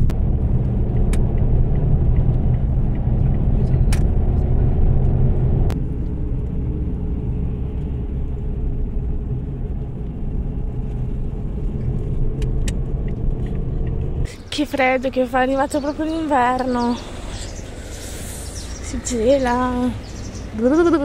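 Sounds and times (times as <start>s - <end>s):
car driving rumble: 0.0s - 21.0s.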